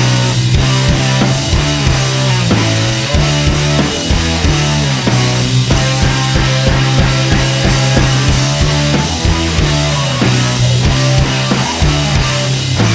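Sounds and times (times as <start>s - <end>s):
rock music with drum kit: 0.0s - 12.9s.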